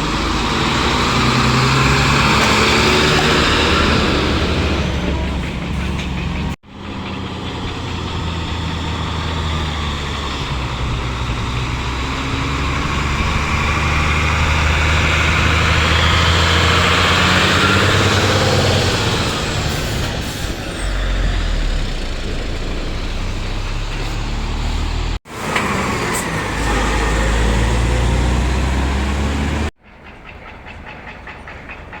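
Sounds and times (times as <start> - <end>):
heavy truck engines running: 0.0 - 29.8
vehicles passing: 0.0 - 29.8.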